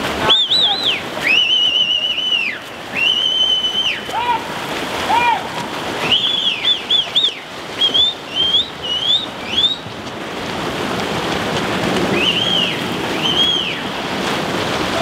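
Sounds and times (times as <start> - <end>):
swimmers splashing in water: 0.0 - 15.0.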